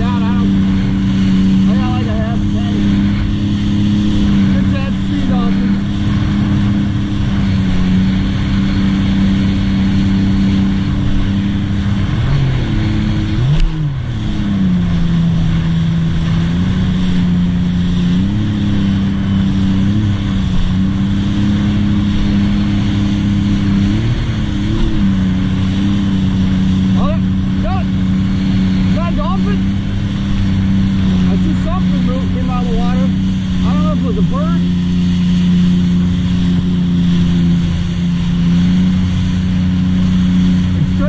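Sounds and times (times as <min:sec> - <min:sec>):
personal watercraft engine: 0:00.0 - 0:41.0
rush of wind and water: 0:00.0 - 0:41.0.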